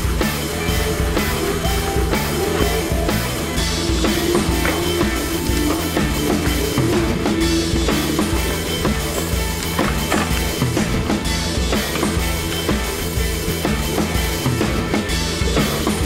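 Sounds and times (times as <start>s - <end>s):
background music with drums: 0.0s - 16.0s.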